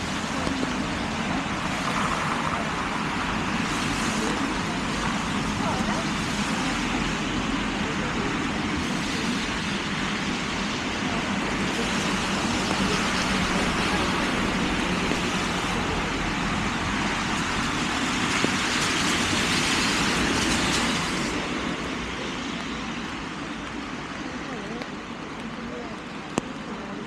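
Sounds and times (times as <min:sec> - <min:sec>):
tyres swishing on wet road: 0:00.0 - 0:27.0.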